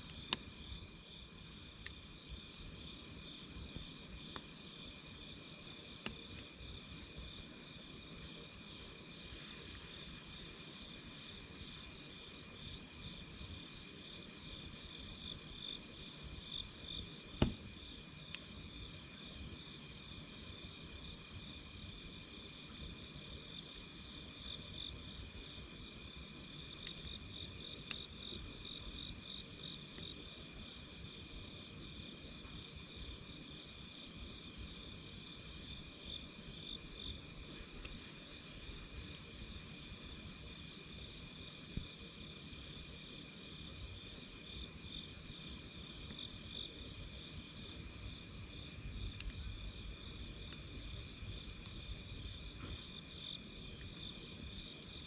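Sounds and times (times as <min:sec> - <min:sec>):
campfire crackling and popping: 0:00.0 - 0:22.1, 0:22.7 - 0:30.6, 0:35.0 - 0:55.0
insects chirring: 0:00.0 - 0:55.0.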